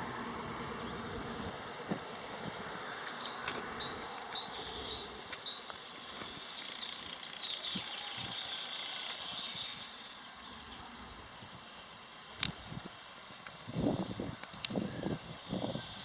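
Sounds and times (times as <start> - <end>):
steady background hiss: 0.0 - 16.0
small birds chirping and trilling: 0.7 - 16.0.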